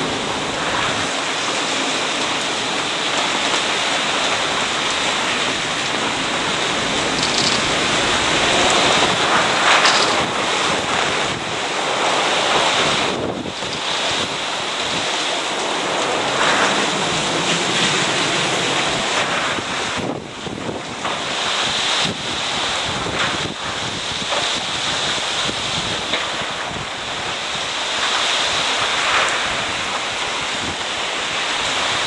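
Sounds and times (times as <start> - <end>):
strong wind gusting on microphone: 0.0 - 32.0.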